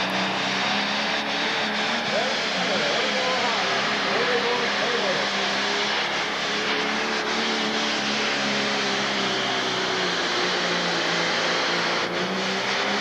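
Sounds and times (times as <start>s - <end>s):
diesel engine running hard: 0.0s - 13.0s.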